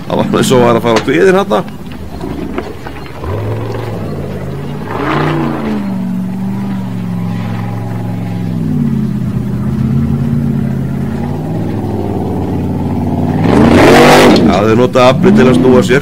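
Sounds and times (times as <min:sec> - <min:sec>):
buggy engine revving under load: 0:00.0 - 0:16.0.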